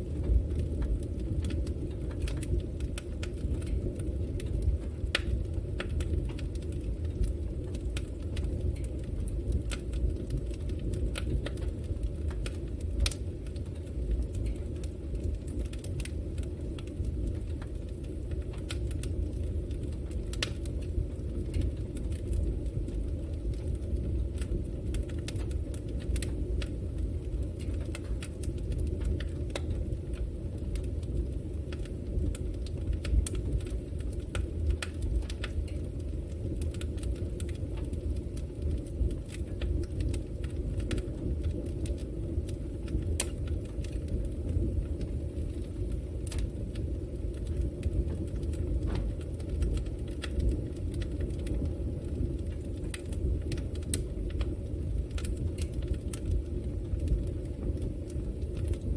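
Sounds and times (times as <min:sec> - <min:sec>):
fire burning with crackles: 0:00.0 - 0:58.9.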